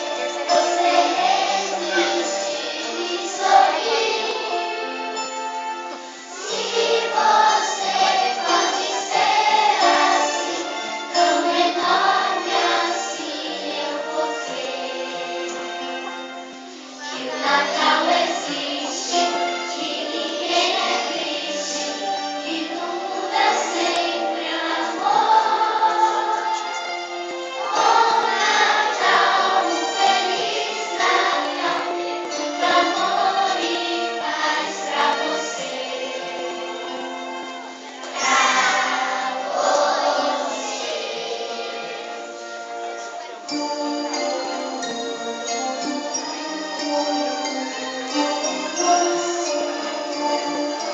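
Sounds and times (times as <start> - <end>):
children singing: 0.0 - 50.9
musical accompaniment: 0.0 - 50.9.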